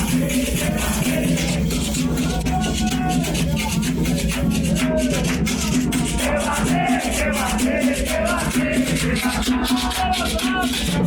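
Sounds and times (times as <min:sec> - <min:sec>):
rattling shaker: 0:00.0 - 0:11.0
voices singing a chant: 0:00.0 - 0:11.0.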